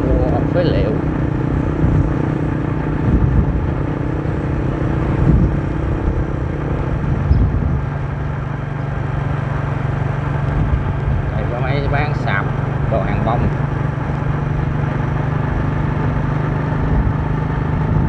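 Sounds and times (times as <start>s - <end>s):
motor scooter engine running: 0.0s - 18.0s
wind and road noise: 0.0s - 18.0s.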